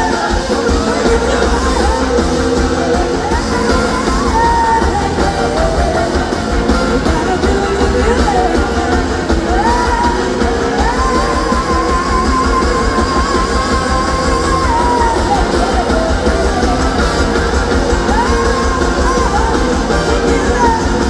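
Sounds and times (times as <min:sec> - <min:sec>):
live rock-soul band playing: 0:00.0 - 0:21.0
woman singing lead vocal: 0:00.0 - 0:21.0.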